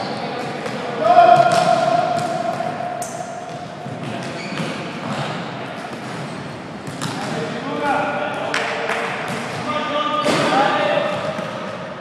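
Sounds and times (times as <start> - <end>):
balls bouncing on hardwood floor: 0.4 - 11.6.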